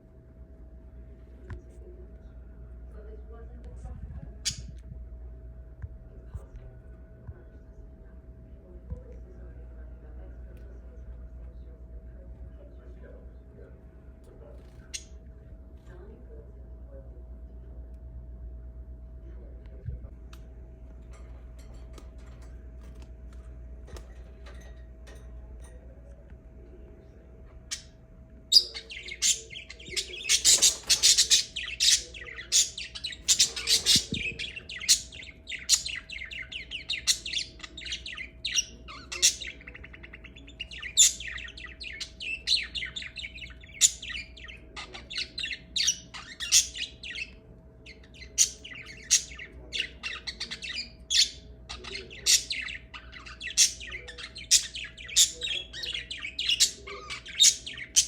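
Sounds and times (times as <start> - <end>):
faint steady hum: 0.0 - 58.0
lovebirds chirping and chattering: 0.2 - 58.0.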